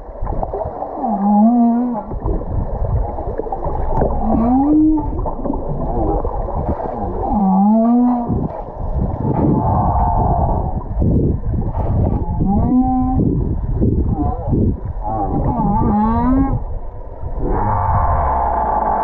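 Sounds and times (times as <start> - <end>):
water rushing and bubbling: 0.0 - 19.0
whale moaning underwater: 0.8 - 2.4, 3.0 - 16.7, 17.3 - 19.0.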